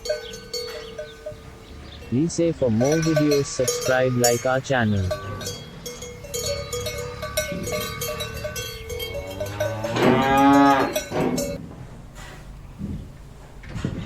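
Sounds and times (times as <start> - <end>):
cow mooing: 0.0 - 11.6
cowbells clanking: 0.0 - 11.6.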